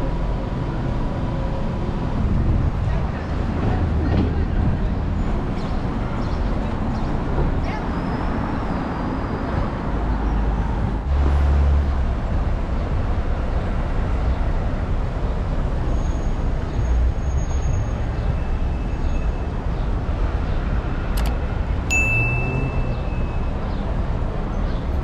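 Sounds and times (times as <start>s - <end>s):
passing vehicles rumble and hiss: 0.0s - 25.0s.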